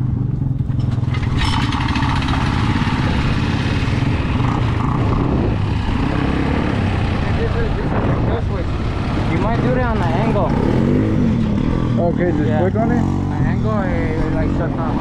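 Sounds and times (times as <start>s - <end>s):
noisier engine note: 0.0s - 15.0s
off-road vehicle engine running: 0.0s - 15.0s.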